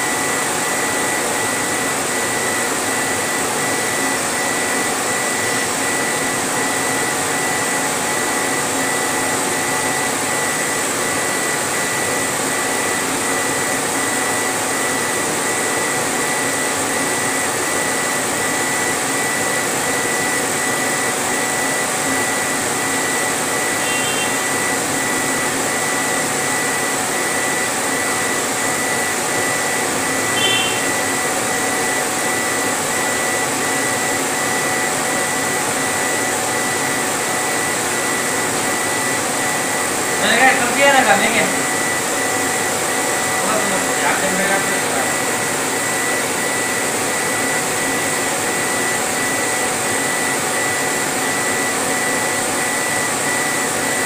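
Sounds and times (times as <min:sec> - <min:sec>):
laser engraving machine running: 0:00.0 - 0:54.0.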